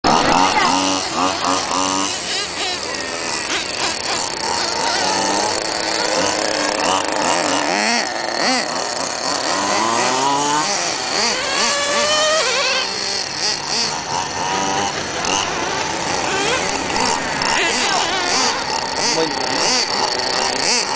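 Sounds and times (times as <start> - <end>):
small two-stroke engines revving: 0.0 - 20.9.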